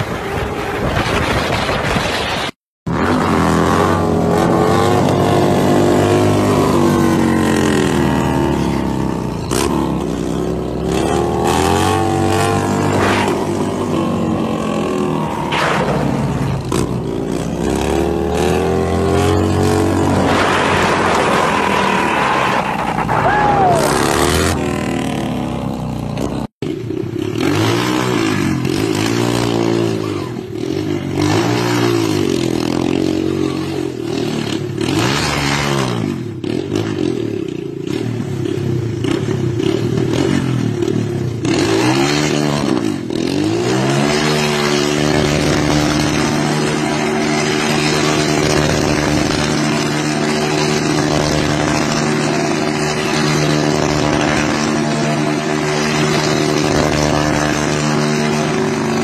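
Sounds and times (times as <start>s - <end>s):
street motorcycle revving: 0.0s - 59.0s
dirt bike revving: 2.9s - 59.0s.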